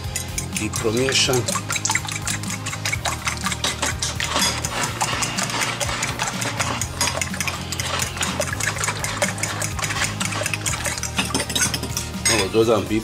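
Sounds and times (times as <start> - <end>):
fork clicking against bowl: 0.0 - 12.4
wet slosh: 0.6 - 11.9.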